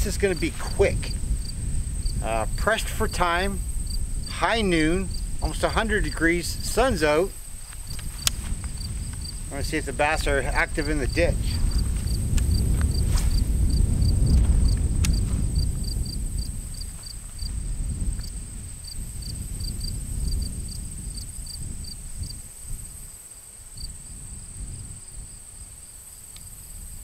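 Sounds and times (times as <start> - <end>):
insects buzzing: 0.0 - 27.0
wind rumbling on microphone: 0.0 - 27.0.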